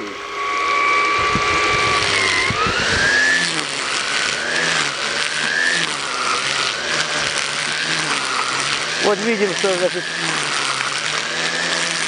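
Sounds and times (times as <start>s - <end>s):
string trimmer motor whining: 0.0s - 12.0s.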